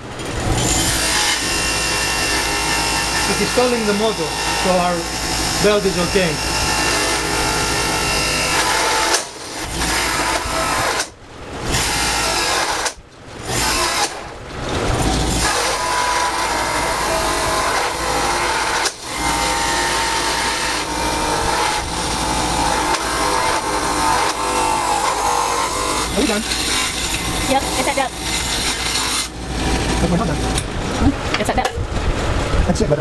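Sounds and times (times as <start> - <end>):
power tool cutting wood: 0.0 - 30.7.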